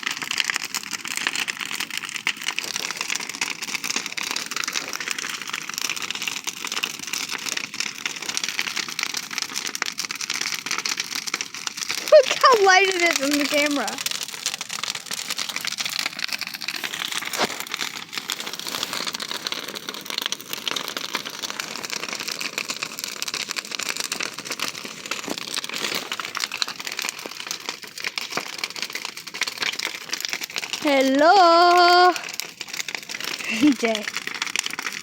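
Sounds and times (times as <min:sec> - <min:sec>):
bonfire crackling: 0:00.0 - 0:35.0.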